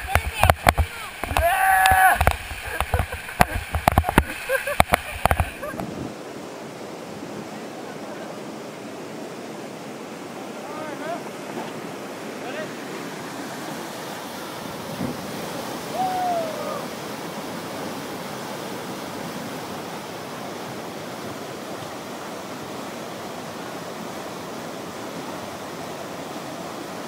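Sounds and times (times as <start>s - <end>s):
whitewater rushing: 0.0s - 27.0s.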